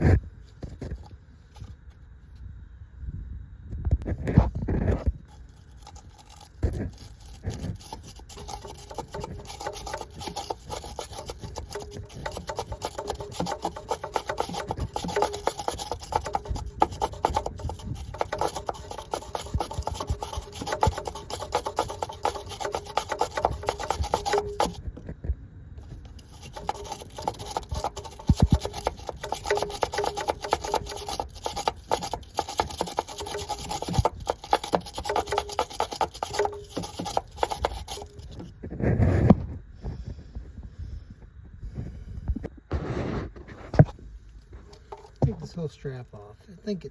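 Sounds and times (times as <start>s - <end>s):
scrubbing rust with rasping strokes: 0.0s - 1.8s, 4.3s - 25.1s, 25.8s - 39.3s, 43.5s - 45.9s.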